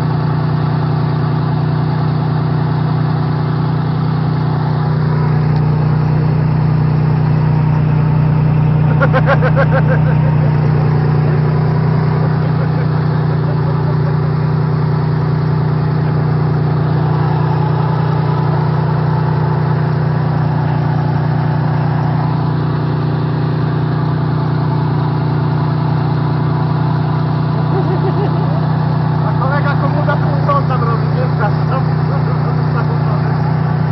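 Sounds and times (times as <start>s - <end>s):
off-road vehicle engine droning: 0.0s - 33.9s.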